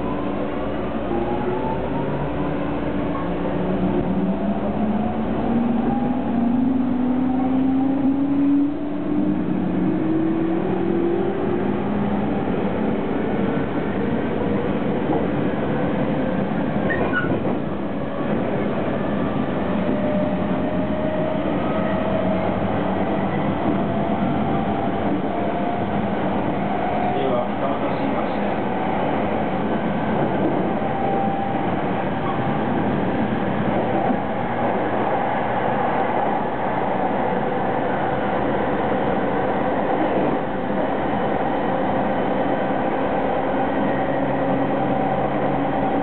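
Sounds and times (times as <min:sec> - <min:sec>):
wheels rumbling on rail: 0:00.0 - 0:46.0.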